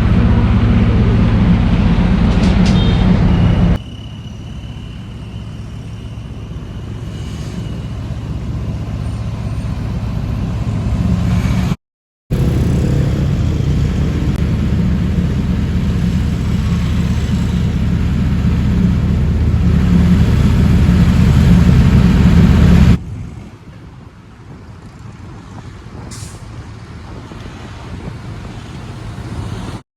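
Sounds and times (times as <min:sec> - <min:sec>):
vehicle engine rumbling: 0:00.0 - 0:29.8.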